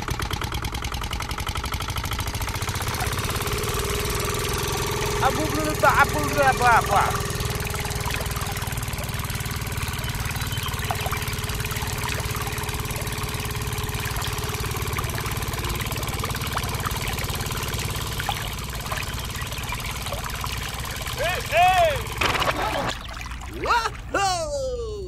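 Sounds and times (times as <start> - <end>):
small motor puttering: 0.0 - 24.1
water trickling into tank: 2.5 - 24.2.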